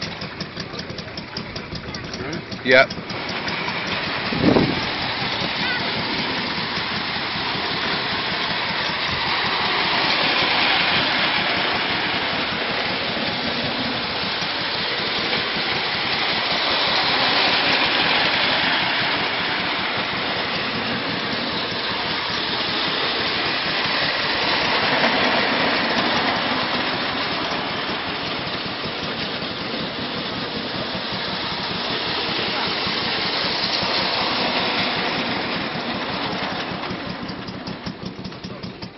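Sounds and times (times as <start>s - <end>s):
clockwork toy train on track: 0.0s - 38.9s.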